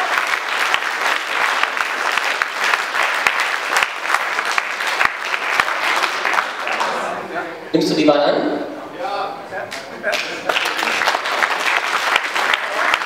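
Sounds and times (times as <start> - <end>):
crowd applauding: 0.0 - 7.3, 9.7 - 13.0.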